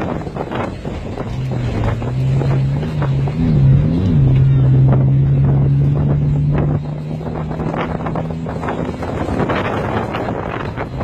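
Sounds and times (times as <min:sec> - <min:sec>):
car engine droning: 0:00.0 - 0:11.0
wind buffeting microphone: 0:00.0 - 0:11.0.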